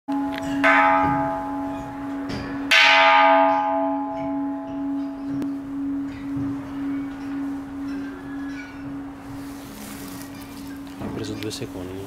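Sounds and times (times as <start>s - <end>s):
bronze bell struck with mallet: 0.1s - 11.6s.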